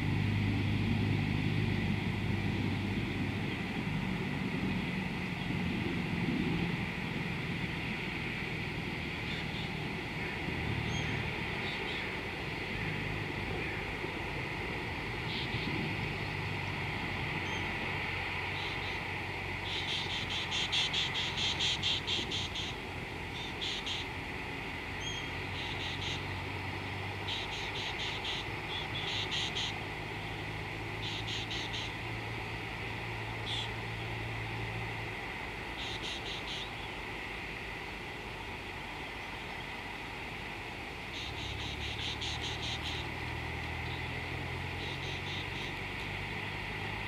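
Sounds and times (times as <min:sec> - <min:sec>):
insect chorus hiss: 0:00.0 - 0:47.0
low steady hum: 0:00.0 - 0:47.0
insects chirping in rapid pulses: 0:06.8 - 0:37.9, 0:40.4 - 0:47.0.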